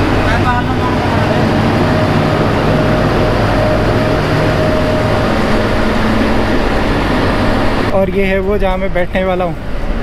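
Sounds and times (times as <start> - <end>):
diesel locomotive passing: 0.0 - 10.0
engine whining tone: 0.0 - 10.0.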